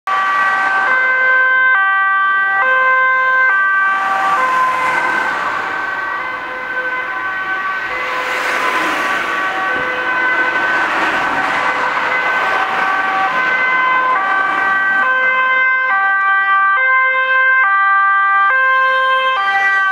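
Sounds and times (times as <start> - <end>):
ambulance two-tone siren: 0.1 - 19.9.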